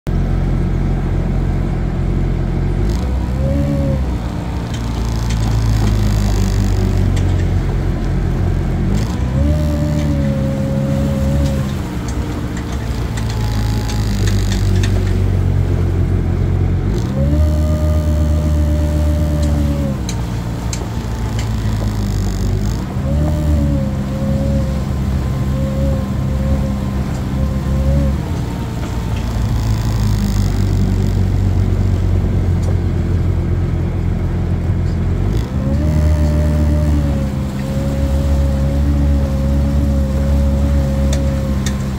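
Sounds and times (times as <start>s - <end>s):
jet ski engine revving: 0.2s - 41.9s.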